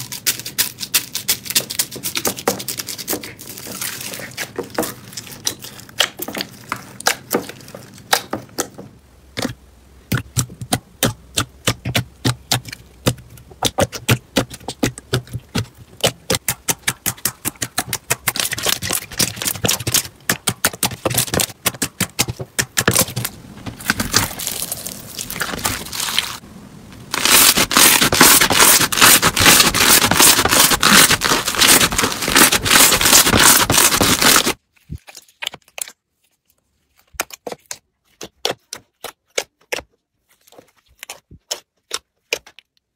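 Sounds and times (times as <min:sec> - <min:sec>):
slime clicking and crackling: 0:00.0 - 0:08.8, 0:09.4 - 0:26.4, 0:27.1 - 0:36.0, 0:37.0 - 0:42.9.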